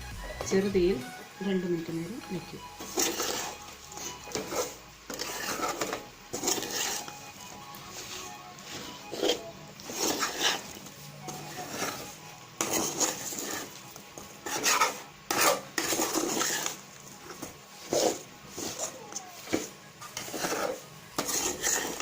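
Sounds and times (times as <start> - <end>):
spatula scraping a pan: 2.8 - 22.0.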